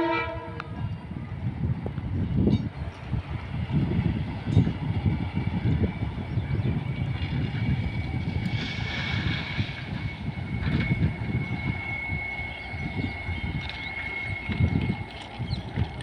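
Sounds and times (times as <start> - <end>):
high locomotive whine: 0.0 - 16.0
train rumbling past: 0.0 - 16.0.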